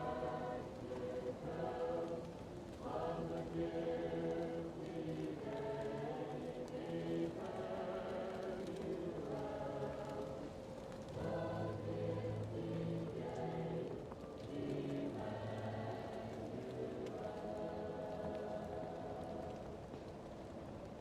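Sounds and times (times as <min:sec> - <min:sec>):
muffled choir singing: 0:00.0 - 0:20.6
wood fire crackling: 0:00.0 - 0:21.0.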